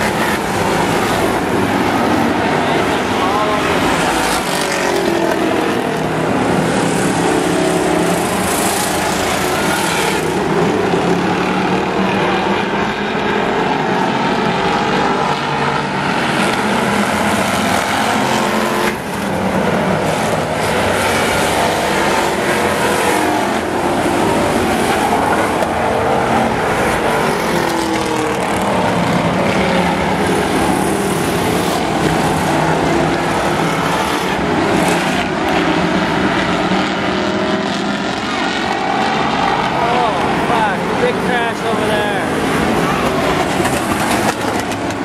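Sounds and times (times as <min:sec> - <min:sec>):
race car engines passing: 0:00.0 - 0:45.0.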